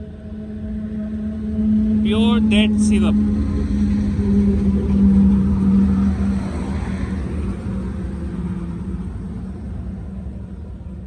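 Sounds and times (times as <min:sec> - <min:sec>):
engine humming and rumbling: 0:00.0 - 0:11.0.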